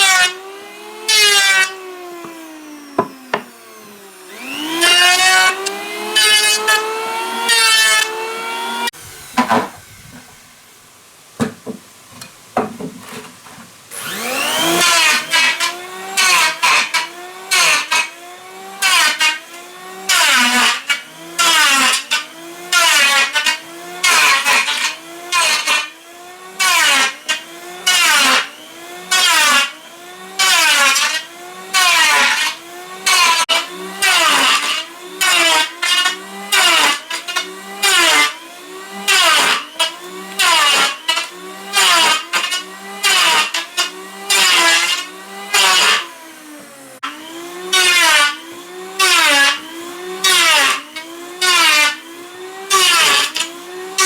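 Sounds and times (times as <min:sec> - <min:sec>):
hand saw cutting wood: 0:00.0 - 0:10.6, 0:12.9 - 0:54.0.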